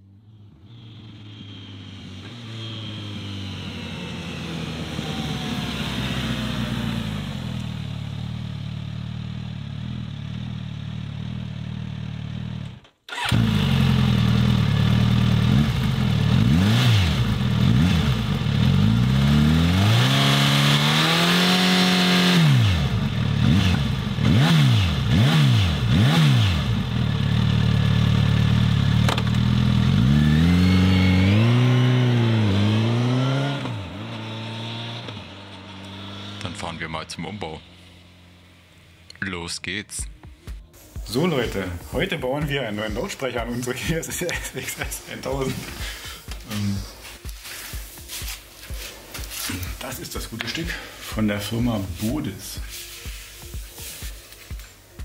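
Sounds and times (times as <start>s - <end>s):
motorcycle engine revving: 0.0s - 39.1s, 40.9s - 55.0s
motorcycle approaching: 0.0s - 39.2s, 40.2s - 54.7s.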